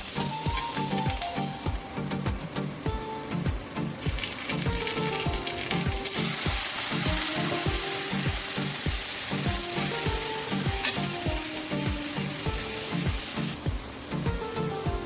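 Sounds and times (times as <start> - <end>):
background music with steady beat: 0.0 - 15.0
food sizzling in hot oil: 0.0 - 15.0.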